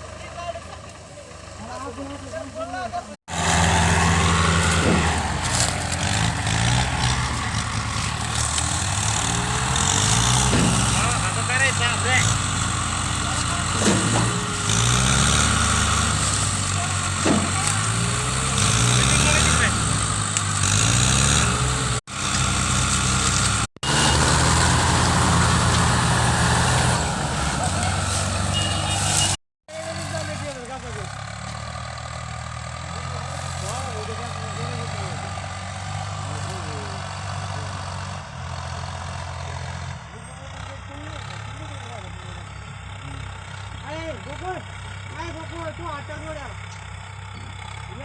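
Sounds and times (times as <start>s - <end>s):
tractor diesel engine running: 3.3s - 48.0s.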